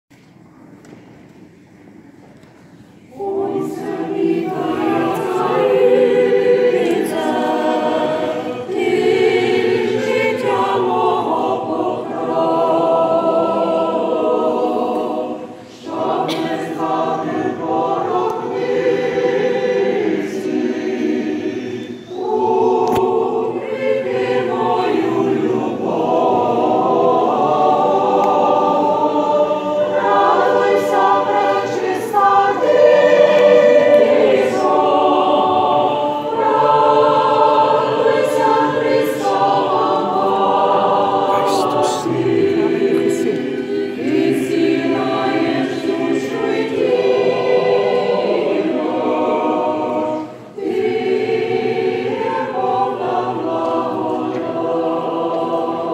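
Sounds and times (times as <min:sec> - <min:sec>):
choir singing a hymn unaccompanied: 0:02.7 - 0:55.9.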